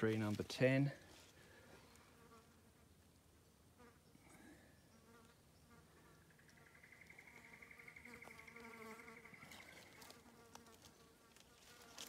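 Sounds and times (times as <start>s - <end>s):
flying insects buzzing: 1.8s - 12.0s.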